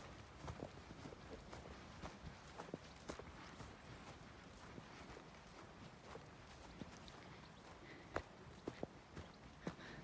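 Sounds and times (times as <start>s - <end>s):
footsteps on grass: 0.0s - 10.0s.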